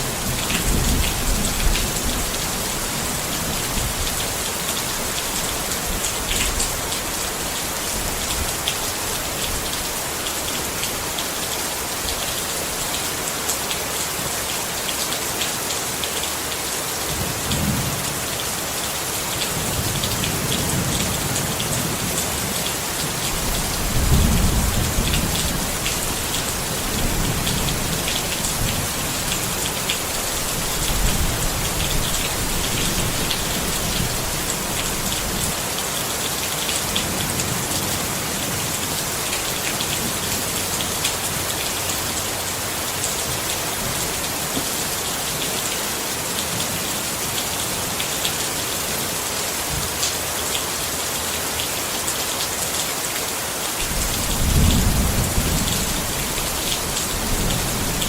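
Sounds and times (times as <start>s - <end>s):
rain pattering on a tent: 0.0s - 58.0s.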